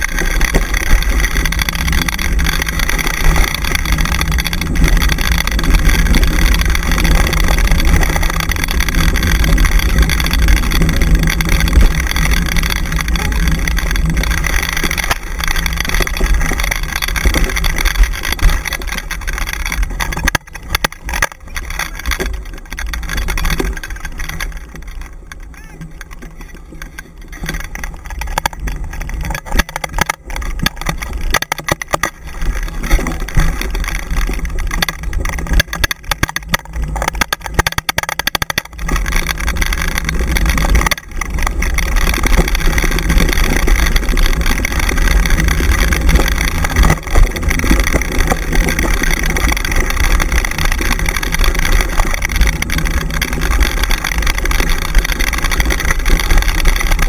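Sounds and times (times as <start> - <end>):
rig rumbling and rattling on dirt: 0.0 - 57.0.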